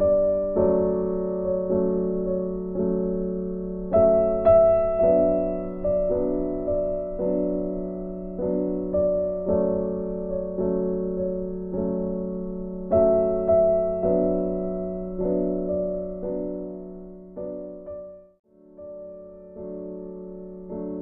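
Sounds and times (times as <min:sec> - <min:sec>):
soft piano chords: 0:00.0 - 0:21.0.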